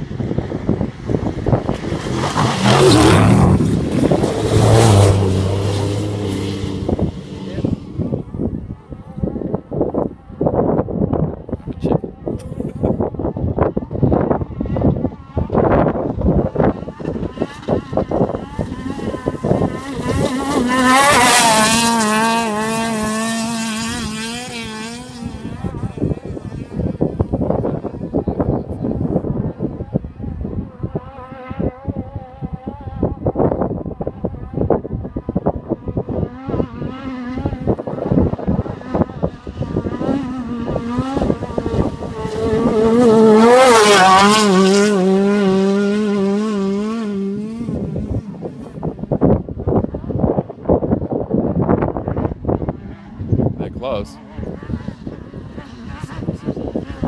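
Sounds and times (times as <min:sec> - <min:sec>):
off-road vehicle engine passing: 0:00.0 - 0:57.0
wind buffeting microphone: 0:00.0 - 0:57.0.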